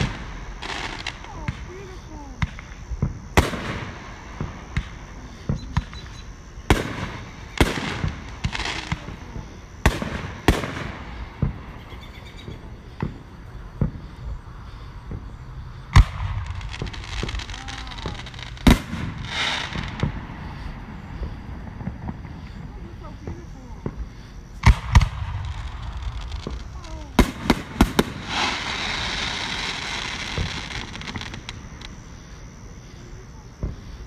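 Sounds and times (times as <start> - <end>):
fireworks booming: 0.0 - 34.0
fireworks crackling: 0.0 - 34.0.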